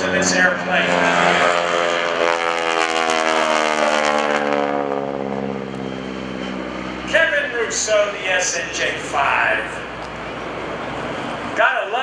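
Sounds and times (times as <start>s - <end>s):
propeller plane flyby: 0.0s - 12.0s.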